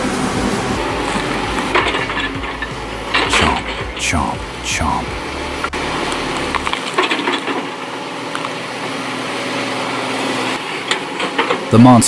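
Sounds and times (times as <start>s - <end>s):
heavy machine engine running: 0.0s - 11.7s.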